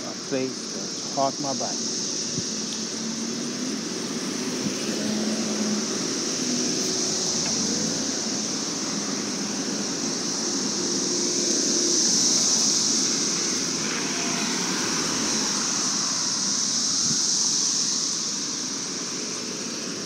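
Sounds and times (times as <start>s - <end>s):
cars passing: 0.0s - 20.0s
constant high hiss: 0.0s - 20.0s
street traffic: 0.0s - 20.0s.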